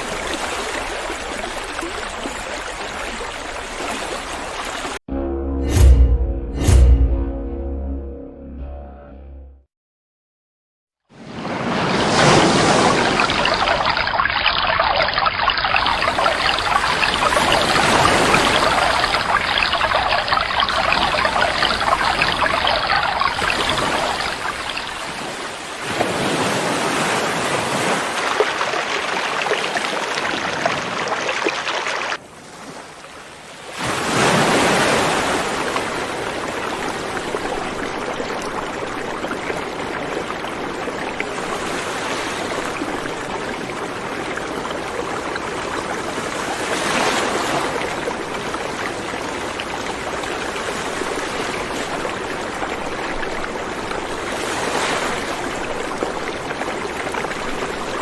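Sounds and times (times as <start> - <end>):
river water rushing and splashing: 0.0 - 5.0, 11.2 - 58.0.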